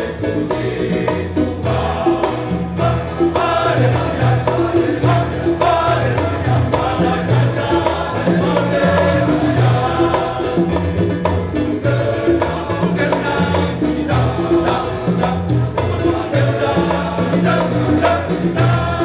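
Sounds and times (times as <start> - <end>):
men's choir singing: 0.0 - 19.0.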